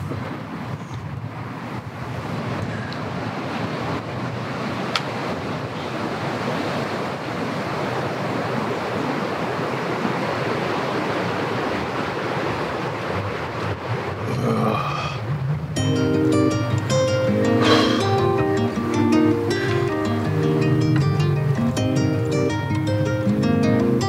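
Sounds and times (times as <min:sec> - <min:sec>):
steady outdoor rushing noise: 0:00.0 - 0:24.0.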